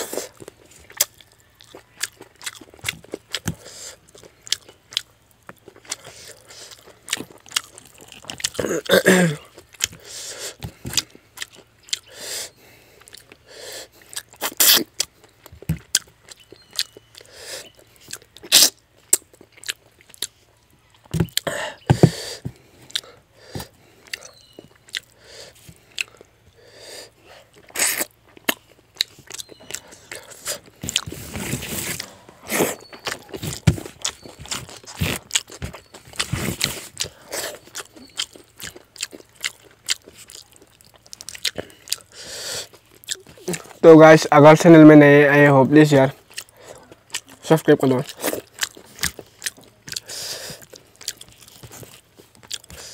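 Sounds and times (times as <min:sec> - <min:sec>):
chewing and crunching: 0:00.0 - 0:52.9.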